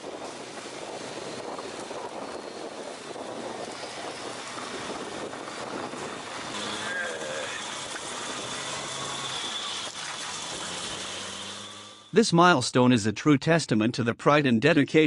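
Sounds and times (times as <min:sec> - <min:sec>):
wind and road noise: 0:00.0 - 0:12.2.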